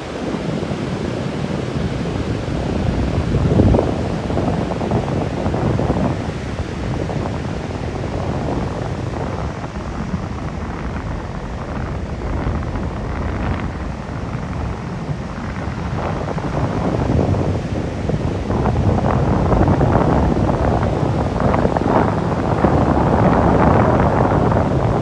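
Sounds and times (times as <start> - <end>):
sea surf: 0.0 - 25.0
wind buffeting microphone: 0.0 - 25.0.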